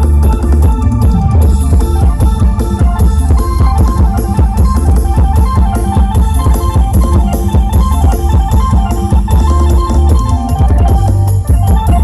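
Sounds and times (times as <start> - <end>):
loud music with guitar and drums: 0.0 - 12.0.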